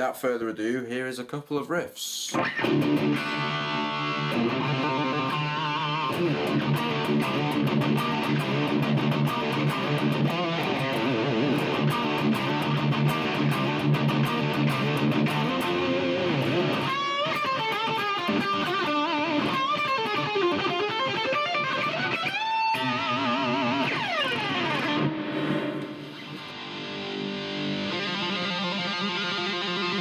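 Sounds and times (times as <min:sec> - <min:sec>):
distorted electric guitar lead: 0:02.3 - 0:30.0.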